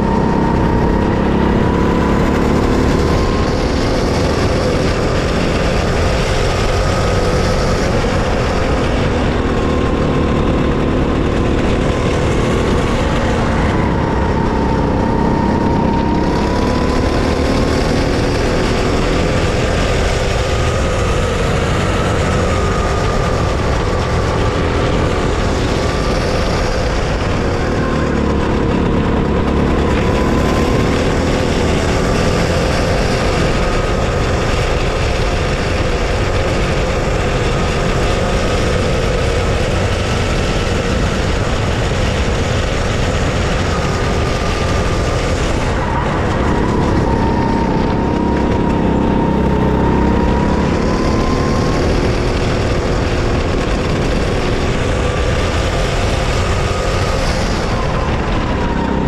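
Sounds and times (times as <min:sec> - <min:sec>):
go-kart engine racing: 0:00.0 - 0:59.0.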